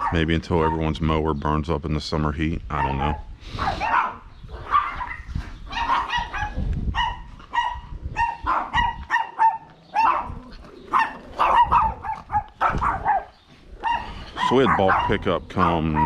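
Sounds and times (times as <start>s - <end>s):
dog barking rapidly: 0.0s - 0.9s, 2.8s - 16.0s.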